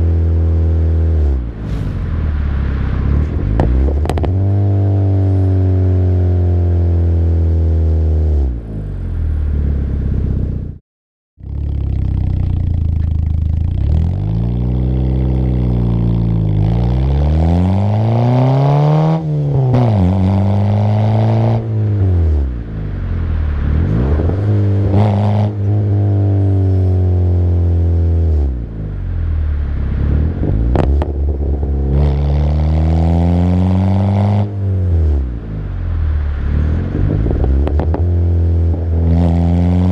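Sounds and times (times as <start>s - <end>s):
car exhaust accelerating: 0.0s - 10.8s, 11.4s - 39.9s.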